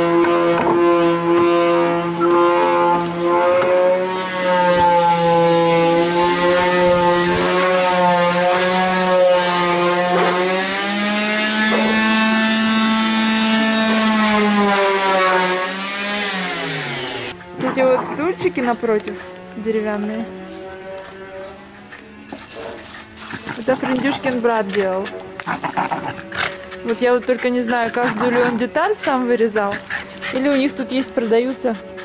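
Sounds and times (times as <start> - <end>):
power tool motor humming: 0.0 - 32.0.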